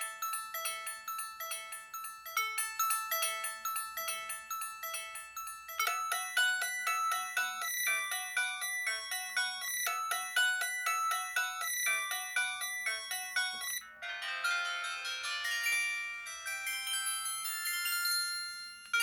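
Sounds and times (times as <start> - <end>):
phone ringtone melody: 0.0 - 19.0.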